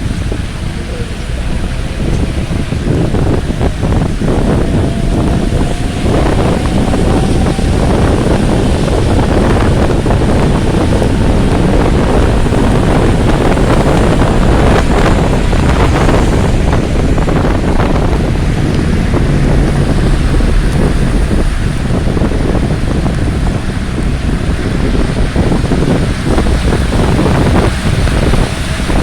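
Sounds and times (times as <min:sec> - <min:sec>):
rain falling: 0:00.0 - 0:29.0
wind buffeting microphone: 0:00.0 - 0:29.0.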